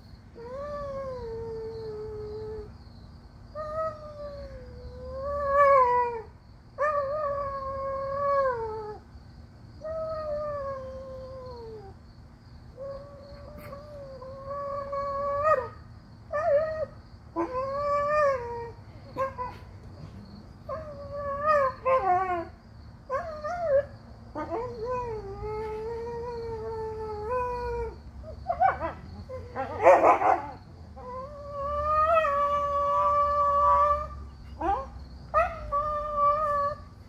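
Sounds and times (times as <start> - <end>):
dog howling and whining: 0.4 - 2.7, 3.6 - 9.0, 9.8 - 12.0, 12.8 - 36.9.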